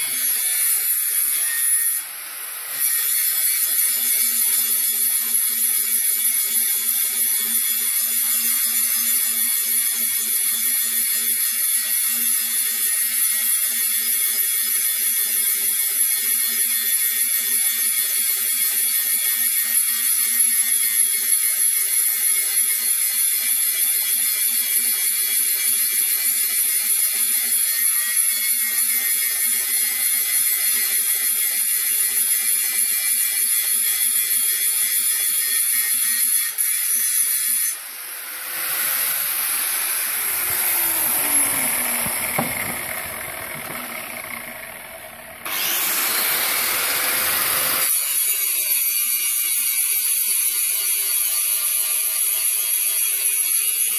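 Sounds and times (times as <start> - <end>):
angle grinder grinding metal: 0.0 - 14.7, 21.2 - 50.3.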